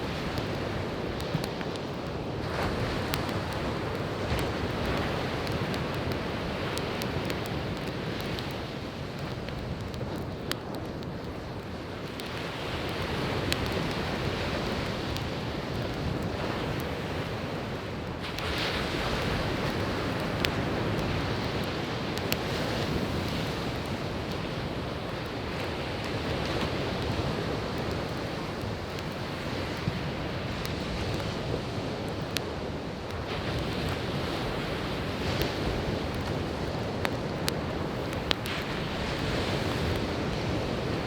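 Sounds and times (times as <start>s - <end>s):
firewood popping and crackling: 0.0s - 41.0s
sea waves washing onto beach: 0.0s - 41.0s.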